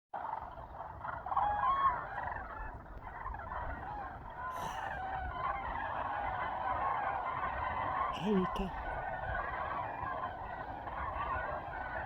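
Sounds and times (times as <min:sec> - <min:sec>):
cranes trumpeting calls: 0:00.5 - 0:12.0.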